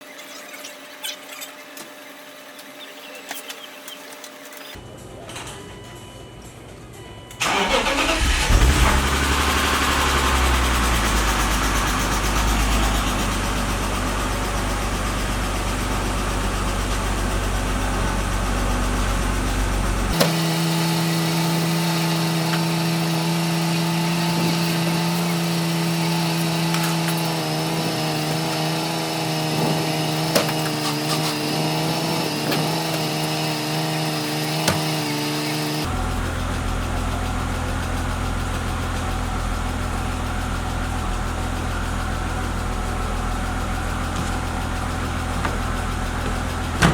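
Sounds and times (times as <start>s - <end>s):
higher-pitched running hum: 0.0s - 46.9s
car engine starting and running: 7.4s - 46.9s.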